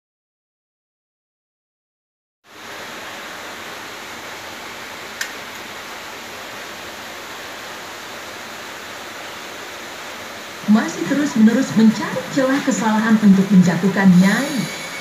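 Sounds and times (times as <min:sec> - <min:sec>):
television hiss: 0:02.5 - 0:15.0.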